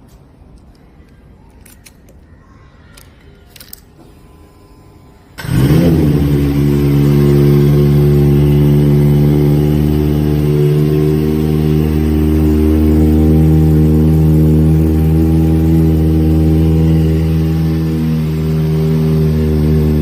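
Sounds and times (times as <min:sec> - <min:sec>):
motorcycle engine starting and idling: 0:03.6 - 0:20.0.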